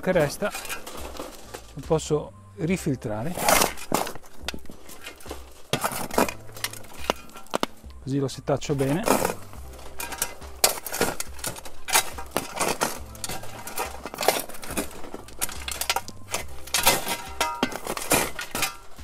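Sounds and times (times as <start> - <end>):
clumps pattering on metal: 0.0 - 2.1, 3.1 - 19.0
metal shovel scraping metal sheet: 0.0 - 2.1, 3.0 - 7.9, 8.6 - 19.0.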